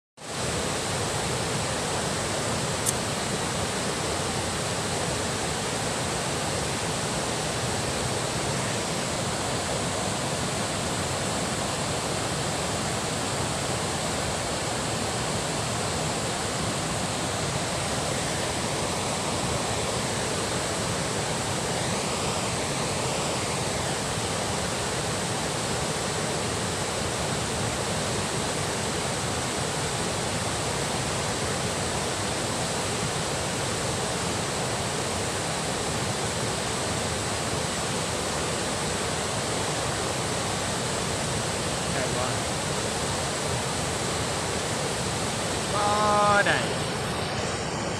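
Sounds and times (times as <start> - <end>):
water rushing from dam outflow: 0.2 - 47.9.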